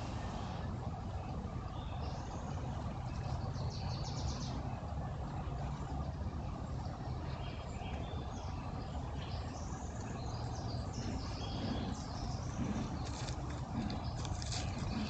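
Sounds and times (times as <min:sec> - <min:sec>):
birds chirping: 0:00.0 - 0:15.0
low rumble: 0:00.0 - 0:15.0.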